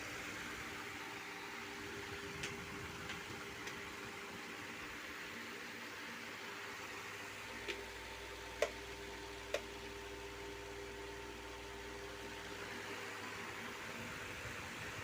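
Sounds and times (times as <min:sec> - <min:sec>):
table fan hiss and hum: 0:00.0 - 0:15.0.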